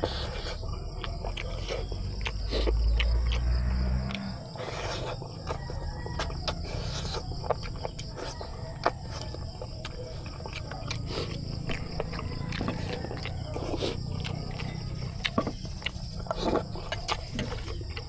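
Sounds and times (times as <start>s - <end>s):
wet chewing and lip smacks: 0.0s - 18.0s.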